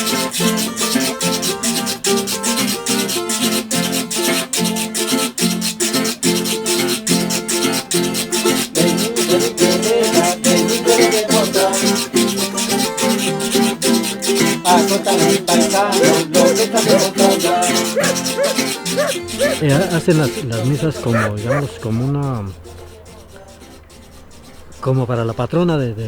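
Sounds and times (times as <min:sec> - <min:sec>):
maracas shaking: 0:00.0 - 0:21.6
guitars strummed and plucked: 0:00.0 - 0:21.9.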